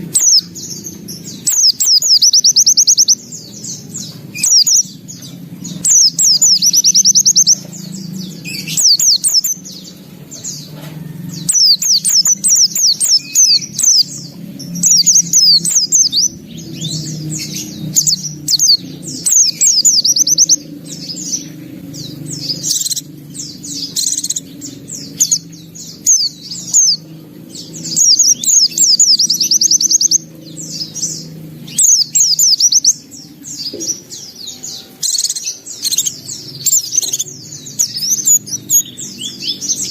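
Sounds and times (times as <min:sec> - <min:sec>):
bird trilling and twittering: 0:00.0 - 0:39.9
steady low hum: 0:00.0 - 0:39.9.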